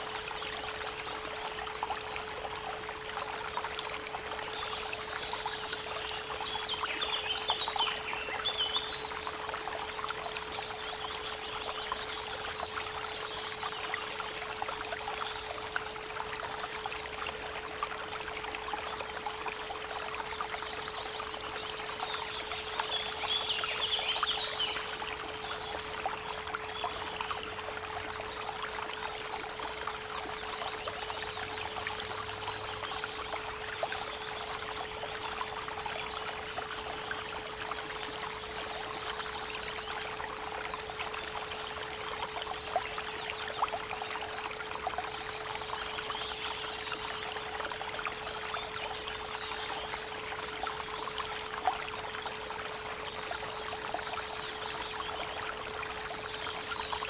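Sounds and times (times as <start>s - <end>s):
creek babbling: 0.0s - 57.0s.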